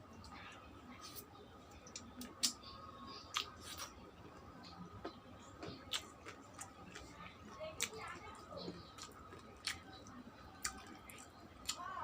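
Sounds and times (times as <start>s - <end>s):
person chewing food: 1.0s - 11.9s.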